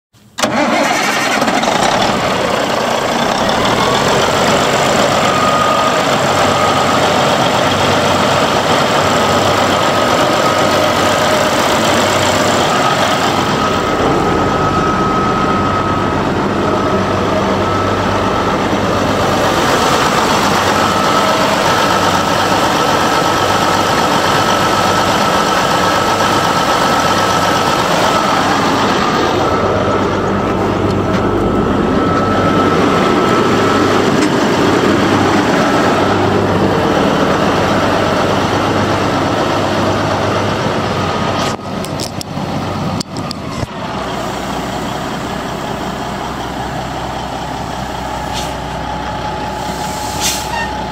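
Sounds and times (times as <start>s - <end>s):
diesel truck engine idling: 0.2s - 50.9s.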